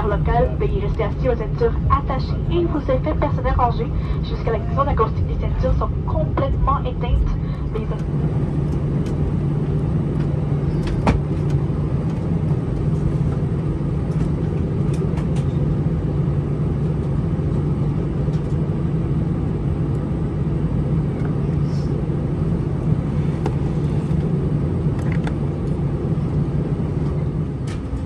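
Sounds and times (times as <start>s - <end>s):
aircraft cabin engine drone: 0.0s - 28.0s.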